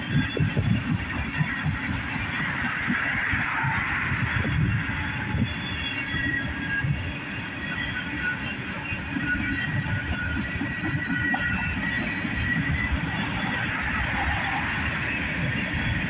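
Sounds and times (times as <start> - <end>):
high-pitched wheel squeals: 0.0 - 16.0
train wheels rumbling on rail: 0.0 - 16.0.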